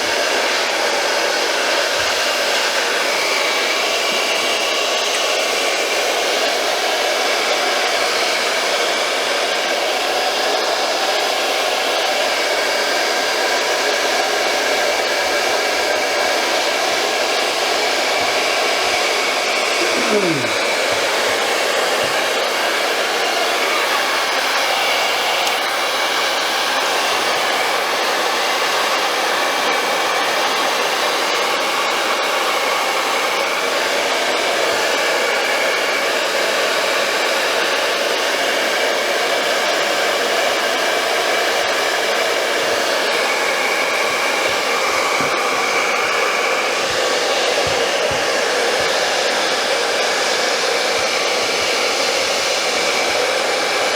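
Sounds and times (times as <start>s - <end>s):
blow dryer blowing air: 0.0s - 53.9s.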